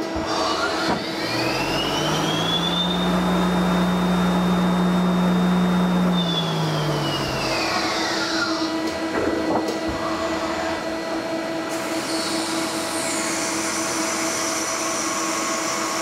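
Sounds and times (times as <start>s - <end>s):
lathe running: 0.0s - 16.0s
spindle drive whine: 0.0s - 16.0s.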